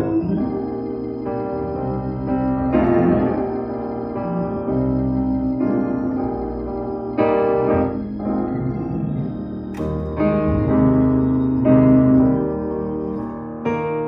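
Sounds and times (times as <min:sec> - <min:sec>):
slow piano-like keyboard chords: 0:00.0 - 0:14.0.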